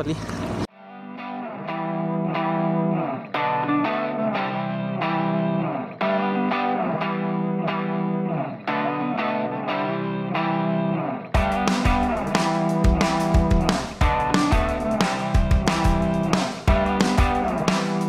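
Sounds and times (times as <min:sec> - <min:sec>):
electric guitar repeating pattern: 0:00.8 - 0:18.0.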